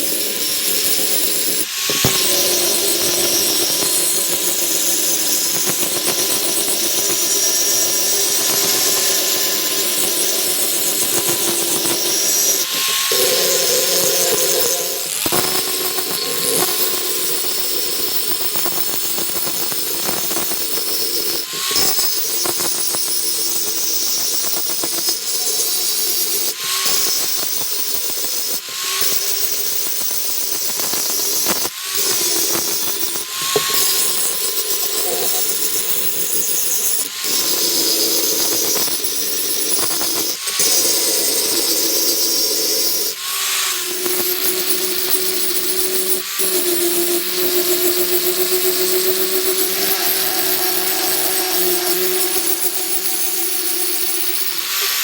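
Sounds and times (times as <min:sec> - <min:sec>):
electric power tool humming: 0:00.0 - 0:55.0.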